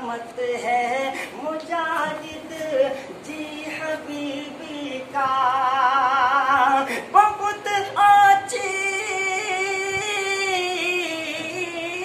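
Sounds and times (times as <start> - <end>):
young man singing unaccompanied: 0.0 - 12.0.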